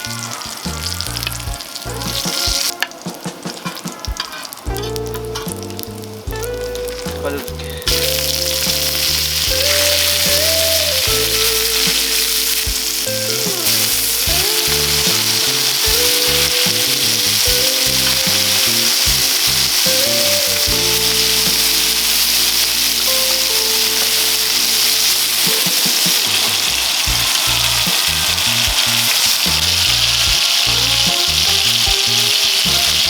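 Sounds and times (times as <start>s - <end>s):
background music: 0.0s - 33.0s
food sizzling on hot metal: 0.0s - 33.0s.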